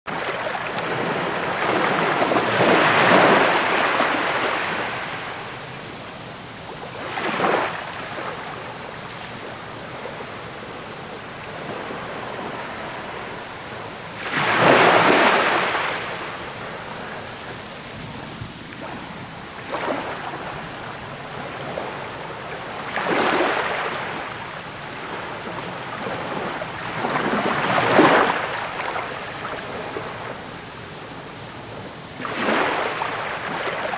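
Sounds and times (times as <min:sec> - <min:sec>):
sea waves breaking: 0:00.1 - 0:33.9
surges of rushing water: 0:00.1 - 0:33.9
steady hiss of water: 0:00.2 - 0:33.9.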